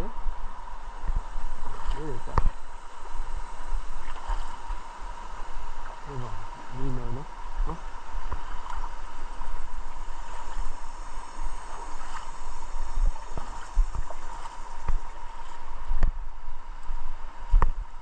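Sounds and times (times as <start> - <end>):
river water splashing: 0.0 - 18.0.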